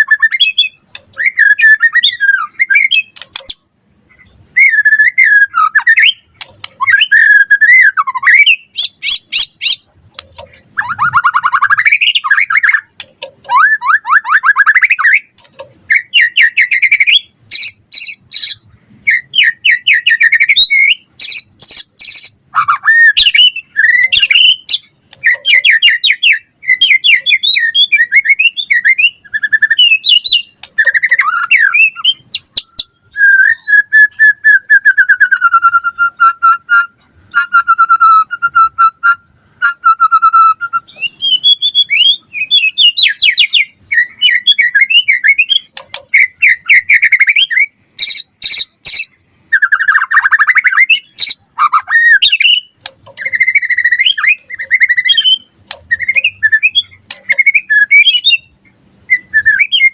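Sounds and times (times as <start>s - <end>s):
bird singing whistles and trills: 0.0s - 59.9s.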